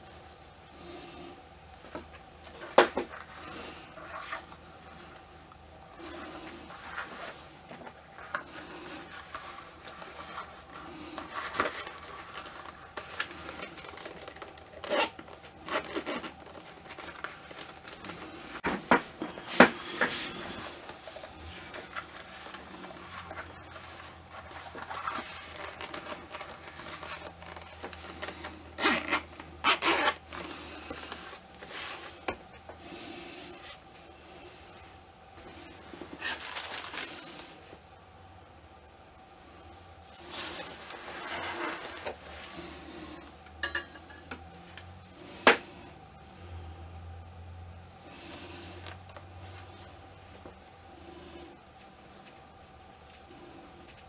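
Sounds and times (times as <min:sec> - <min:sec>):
rustling and rubbing of doll clothing: 0:00.0 - 0:37.9, 0:39.7 - 0:43.2, 0:47.8 - 0:54.0.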